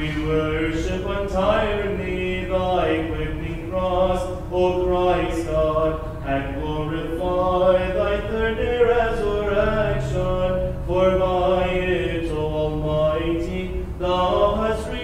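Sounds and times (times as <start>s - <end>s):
man chanting a hymn: 0.0s - 15.0s.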